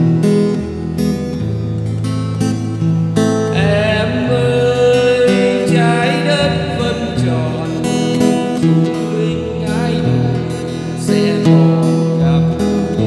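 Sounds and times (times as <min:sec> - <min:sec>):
acoustic guitar bolero: 0:00.0 - 0:13.0.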